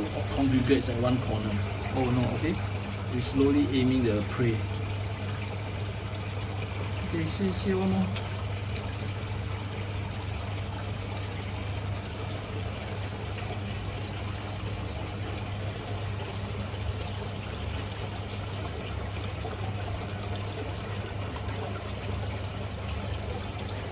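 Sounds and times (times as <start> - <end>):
low pump hum: 0.0 - 23.9
water trickling: 0.0 - 23.9.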